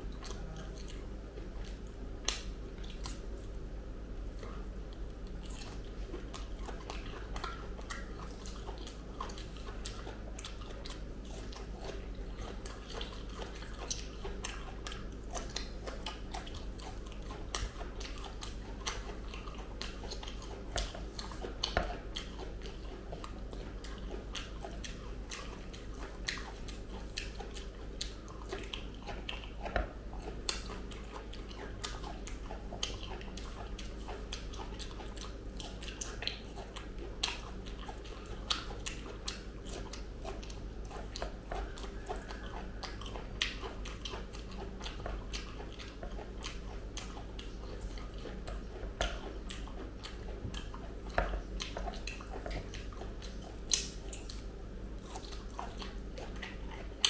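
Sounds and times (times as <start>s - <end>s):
wet chewing and mouth smacks: 0.0s - 57.0s.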